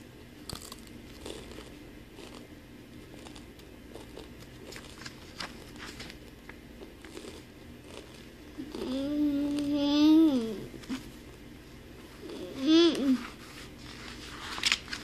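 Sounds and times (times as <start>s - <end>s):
child chewing crunchy food: 0.4s - 15.0s.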